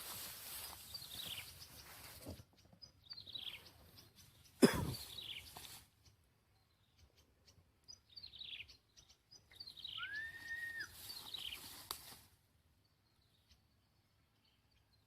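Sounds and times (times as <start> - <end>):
bird chirping: 0.4 - 11.8, 12.6 - 15.0.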